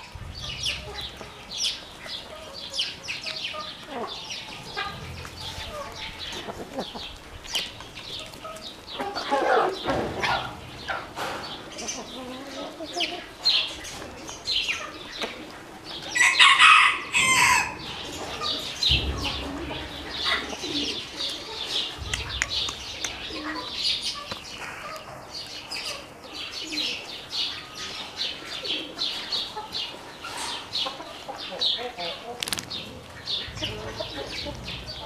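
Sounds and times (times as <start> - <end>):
chickens calling: 0.0 - 35.0.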